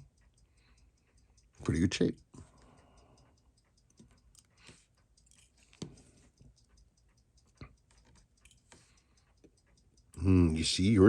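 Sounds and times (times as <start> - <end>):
watch parts and tweezers clicking: 0.0 - 11.0.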